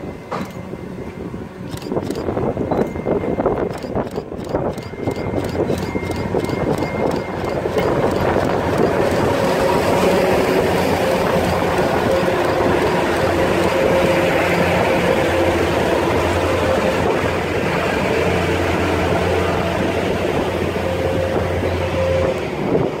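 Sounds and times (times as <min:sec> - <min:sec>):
diesel engines humming: 0:00.0 - 0:23.0
wheel and rail noise: 0:00.0 - 0:23.0.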